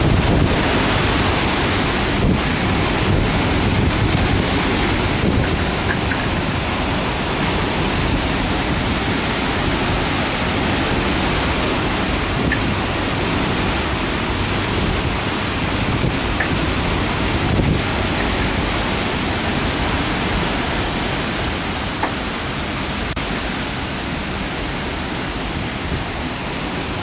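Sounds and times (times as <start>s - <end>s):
storm wind and rain: 0.0s - 27.0s.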